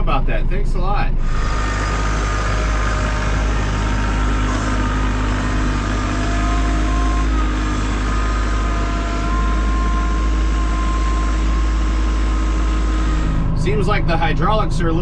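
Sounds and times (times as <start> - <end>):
steady whining tones: 0.0 - 15.0
tractor diesel engine running: 0.0 - 15.0.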